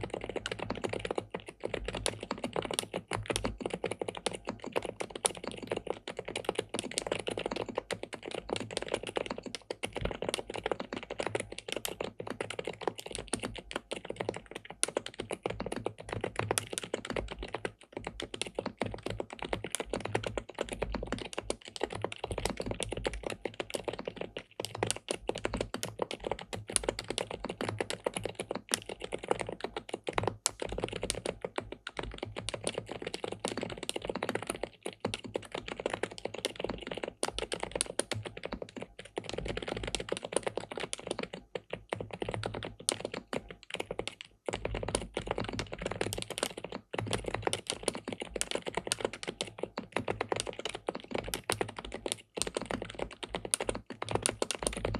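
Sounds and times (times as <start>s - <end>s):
typing on mechanical keyboard: 0.0s - 54.9s.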